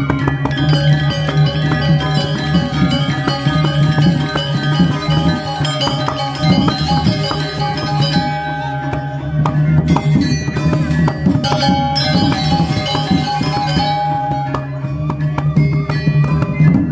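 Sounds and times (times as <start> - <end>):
metallophones ringing: 0.0 - 16.8
hand drums: 0.0 - 16.9.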